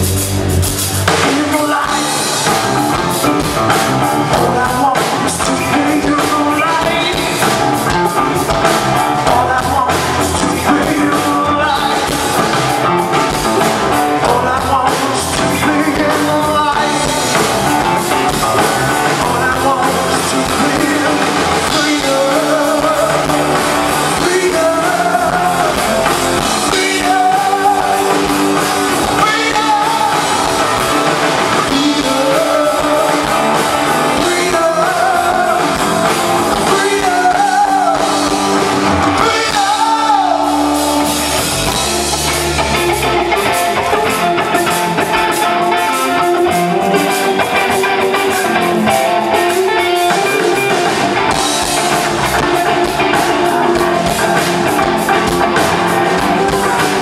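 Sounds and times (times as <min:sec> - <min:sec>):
live rock band playing: 0:00.0 - 0:57.0
person singing: 0:00.8 - 0:57.0.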